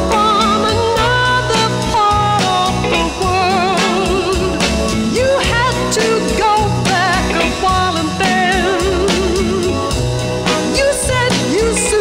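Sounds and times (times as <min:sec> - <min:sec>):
orchestral pop song: 0:00.0 - 0:12.0
steady drum beat: 0:00.0 - 0:12.0.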